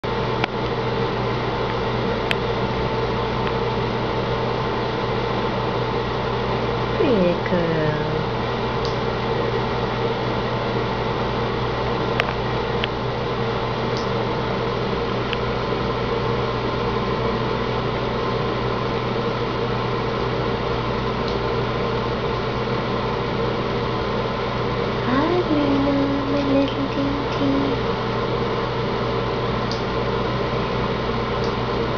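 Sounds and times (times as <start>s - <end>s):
fan-like mechanical hum: 0.0s - 31.9s.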